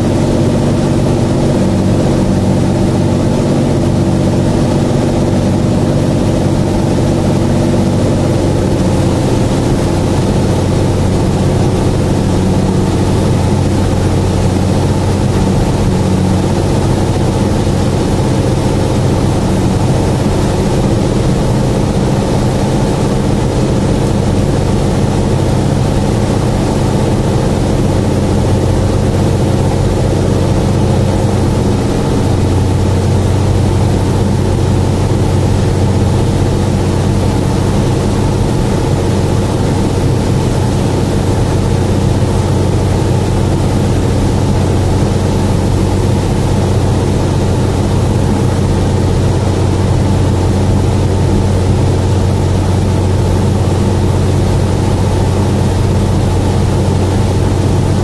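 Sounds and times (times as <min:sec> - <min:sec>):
aircraft engine and airflow drone: 0:00.0 - 0:58.0
low hum: 0:00.0 - 0:58.0.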